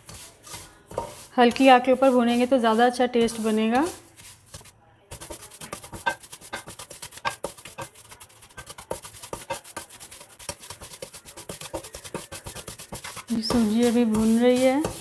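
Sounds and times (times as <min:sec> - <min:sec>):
spatula scraping in pan: 0:00.0 - 0:15.0.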